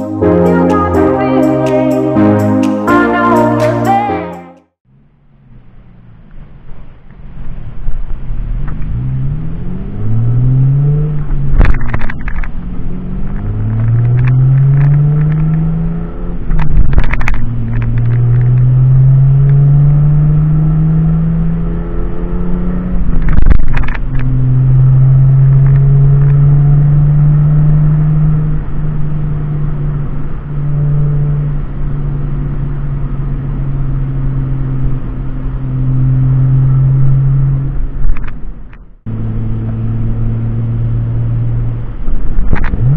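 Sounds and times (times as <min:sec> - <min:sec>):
car engine accelerating: 0:04.7 - 0:42.9.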